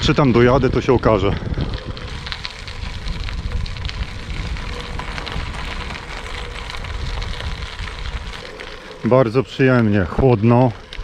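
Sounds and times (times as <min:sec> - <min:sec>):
low rumble: 0:00.0 - 0:10.2
bicycle tyres crunching on gravel: 0:00.0 - 0:11.0.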